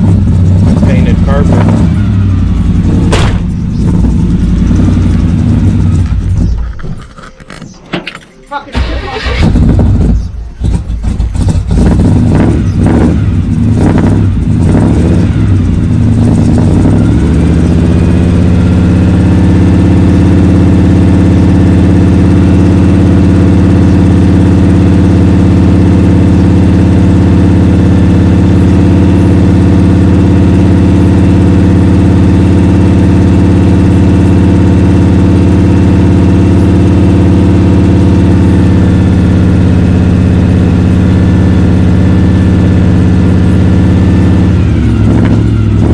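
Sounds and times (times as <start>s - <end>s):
engine running unevenly then idling: 0.0s - 7.7s, 8.7s - 45.9s.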